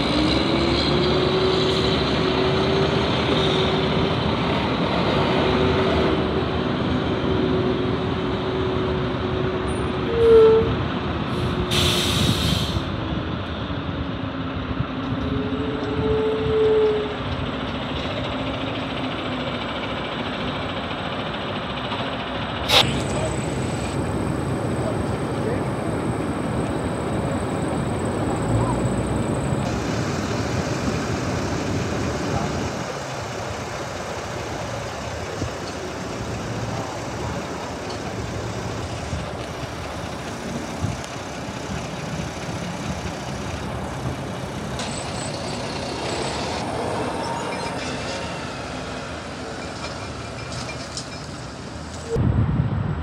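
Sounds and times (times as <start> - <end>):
truck diesel engine: 0.0 - 52.2.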